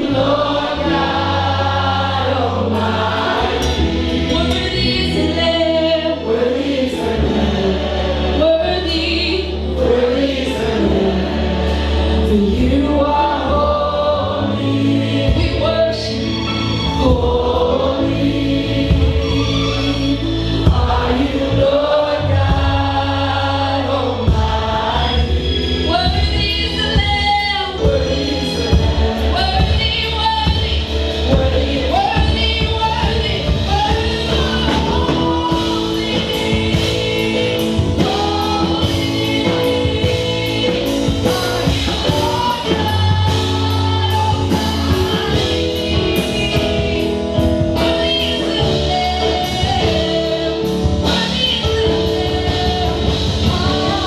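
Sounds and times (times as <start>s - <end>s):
gospel choir singing: 0.0s - 54.0s
instrumental backing with bass line: 0.0s - 54.0s.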